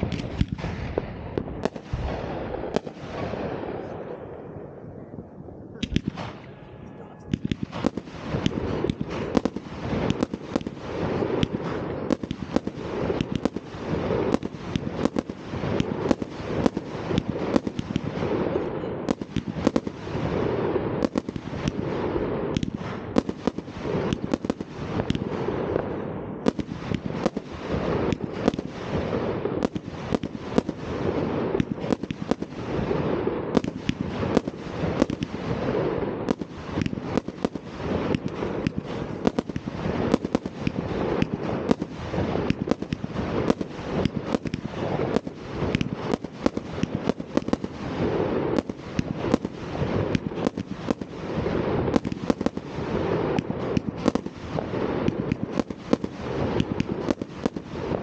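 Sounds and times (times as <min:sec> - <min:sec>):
firecrackers crackling: 0:00.0 - 0:04.2, 0:05.8 - 0:58.0
fireworks bangs: 0:00.0 - 0:05.2, 0:05.8 - 0:58.0.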